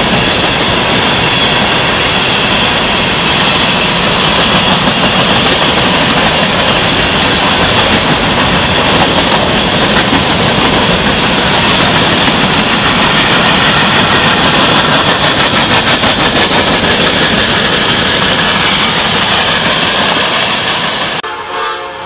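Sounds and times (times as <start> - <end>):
train wheels on rails: 0.0 - 21.6.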